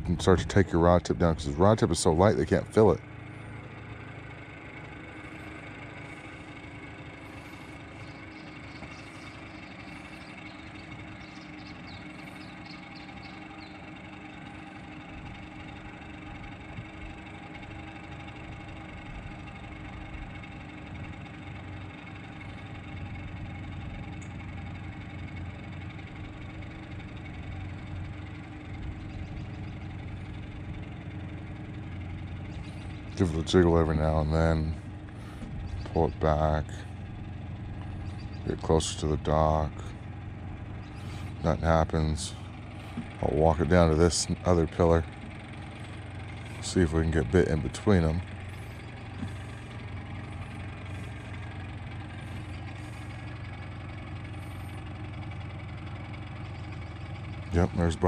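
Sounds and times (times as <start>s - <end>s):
engine hum: 0.0s - 58.0s.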